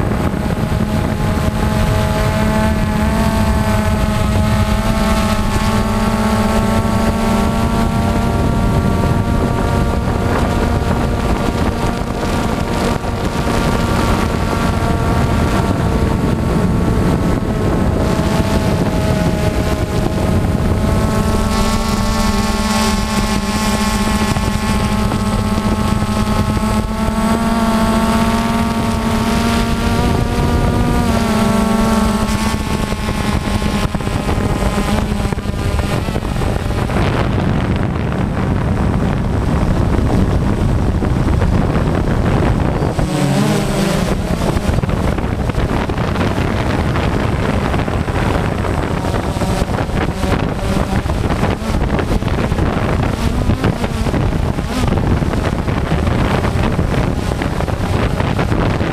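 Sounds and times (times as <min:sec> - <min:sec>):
drone propellers whining: 0:00.0 - 0:58.9
wind rushing over microphone: 0:00.0 - 0:58.9.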